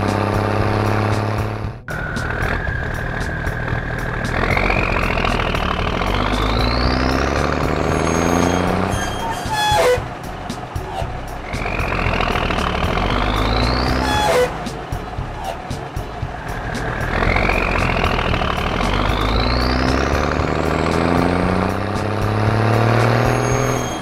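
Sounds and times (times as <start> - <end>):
cartoon truck engine revving: 0.0 - 24.0.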